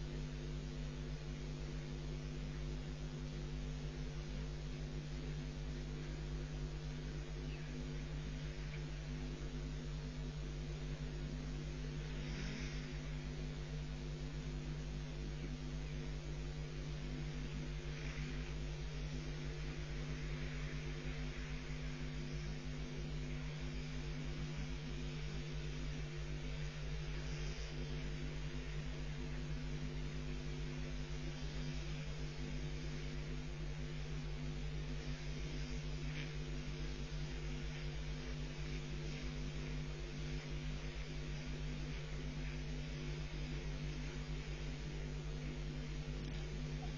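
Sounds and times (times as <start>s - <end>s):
electrical mains hum: 0.0s - 46.9s
even hiss: 4.0s - 46.9s.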